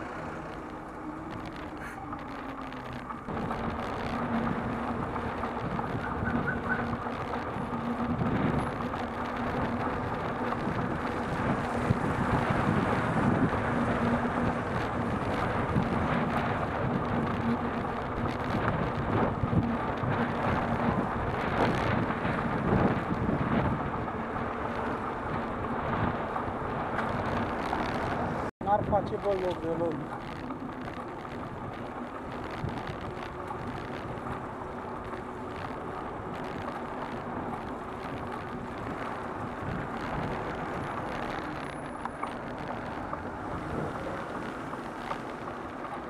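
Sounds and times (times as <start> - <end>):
bicycle tyres rolling on asphalt: 0.0 - 46.0
murmur of traffic: 0.0 - 46.0
wind on the microphone: 0.0 - 46.0.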